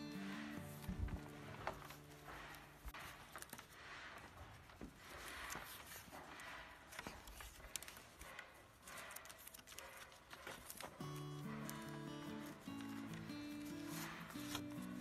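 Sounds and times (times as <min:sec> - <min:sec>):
rustling and scraping of tie strip: 0:00.0 - 0:15.0.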